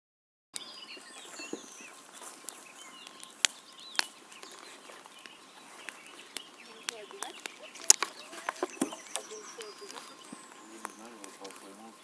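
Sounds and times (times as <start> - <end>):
birds chirping: 0.6 - 12.0
bonfire crackling and popping: 0.6 - 12.0.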